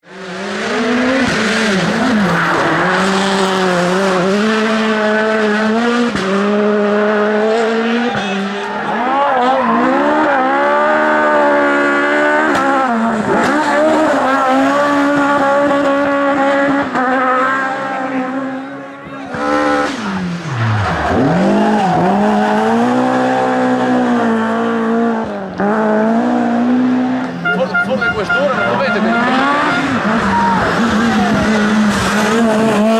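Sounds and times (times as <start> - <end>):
rally car engine revving: 0.0 - 32.9.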